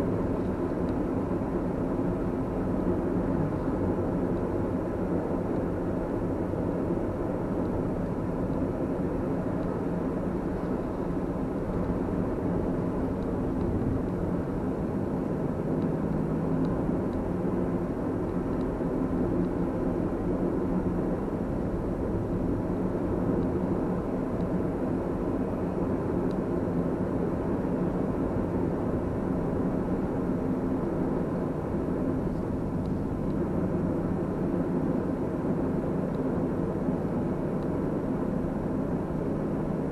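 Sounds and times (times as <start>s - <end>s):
car engine and tyre road noise: 0.0s - 39.9s.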